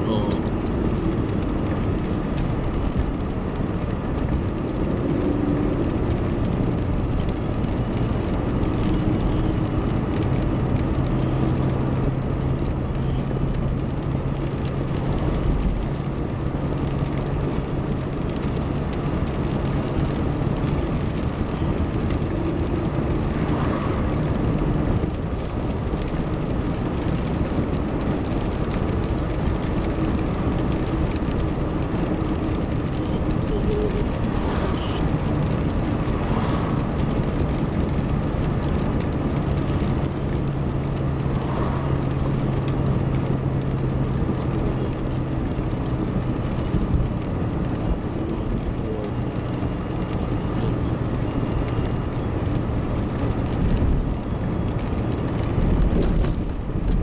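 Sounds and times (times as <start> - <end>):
car engine and tyre noise: 0.0 - 57.0.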